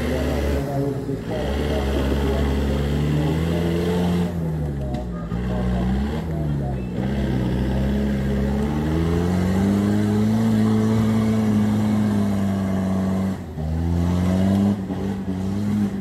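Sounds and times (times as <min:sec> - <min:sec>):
suv engine revving: 0:00.0 - 0:16.0.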